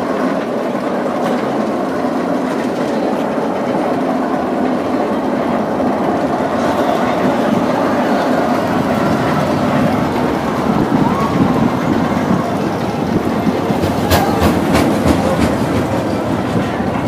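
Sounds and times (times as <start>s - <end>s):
roller coaster rumbling on track: 0.0s - 17.0s
sharp track clacks: 0.0s - 17.0s.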